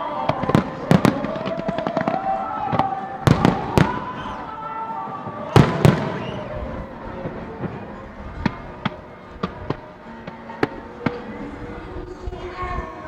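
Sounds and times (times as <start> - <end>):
fireworks bangs: 0.0 - 12.5
fireworks crackling: 0.0 - 13.0.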